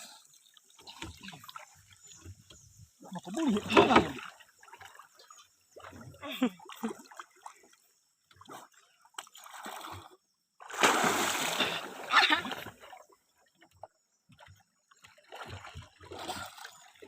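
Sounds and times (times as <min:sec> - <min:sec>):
water splashing: 0:00.0 - 0:17.0.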